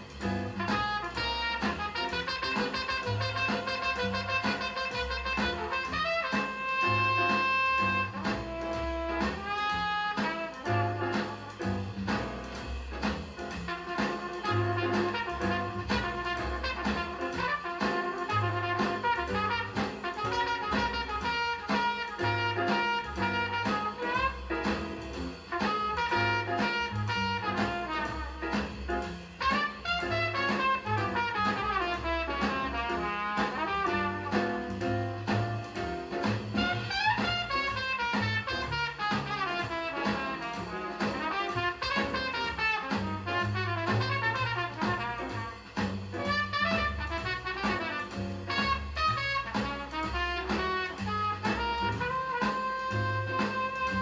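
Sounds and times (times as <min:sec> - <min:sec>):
jazz with horns bass and drums: 0:00.0 - 0:54.0.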